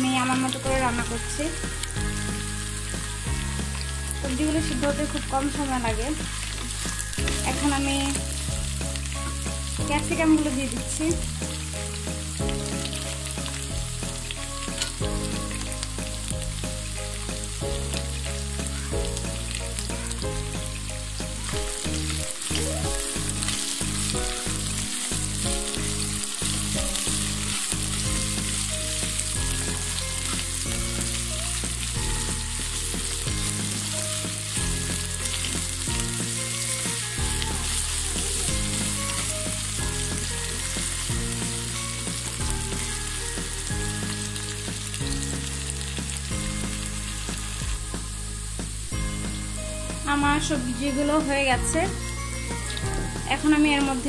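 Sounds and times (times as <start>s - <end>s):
food sizzling in hot oil: 0.0s - 54.0s
wooden spatula stirring in wok: 0.0s - 54.0s.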